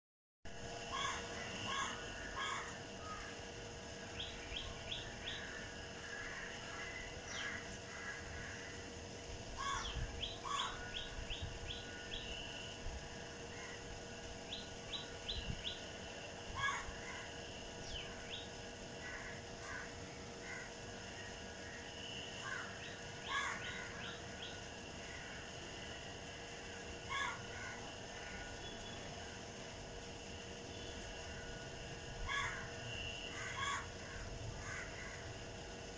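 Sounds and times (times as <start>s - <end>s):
faint steady hum: 0.5s - 35.9s
harsh bird calls: 0.8s - 3.5s, 4.1s - 12.8s, 13.5s - 26.2s, 27.0s - 29.3s, 32.2s - 35.4s.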